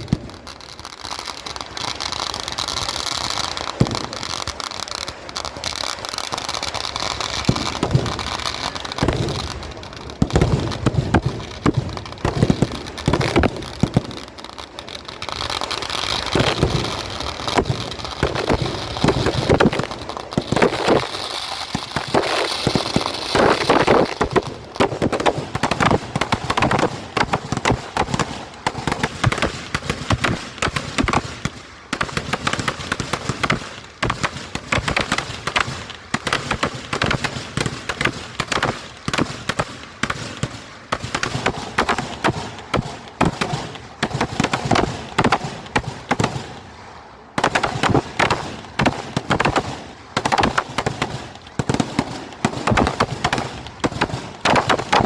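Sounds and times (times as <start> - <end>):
firecracker bangs and crackles: 0.0 - 55.0.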